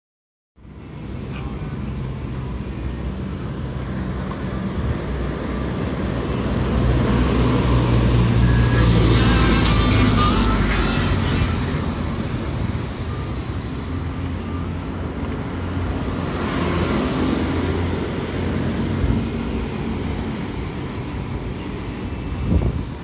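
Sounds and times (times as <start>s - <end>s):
road traffic rumble: 0.6s - 23.0s.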